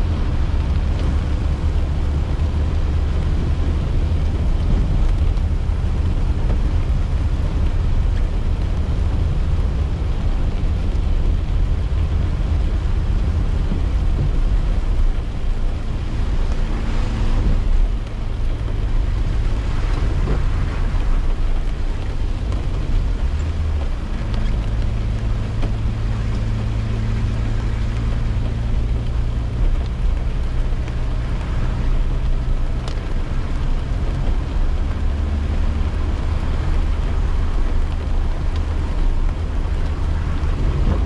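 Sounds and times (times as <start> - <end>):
car engine and tyre drone: 0.0 - 41.0
raindrops ticking on car: 0.0 - 41.0.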